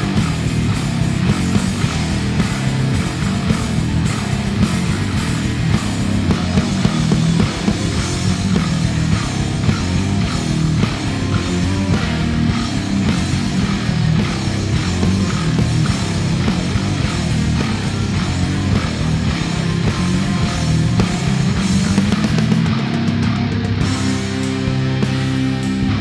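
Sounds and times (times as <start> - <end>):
bass guitar through effects: 0.0 - 26.0
drum kit playing: 0.0 - 26.0.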